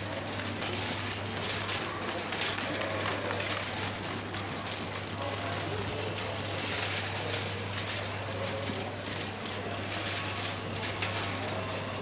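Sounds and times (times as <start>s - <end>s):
shopping cart rattling on tiles: 0.0s - 12.0s.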